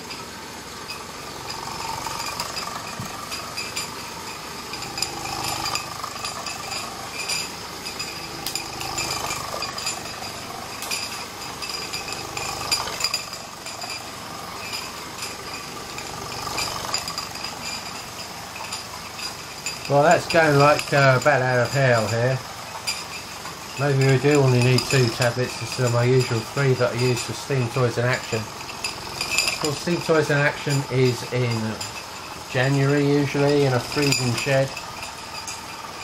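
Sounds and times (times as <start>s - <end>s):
kitchen extractor fan: 0.0s - 36.0s
toy steam roller clattering: 0.0s - 36.0s.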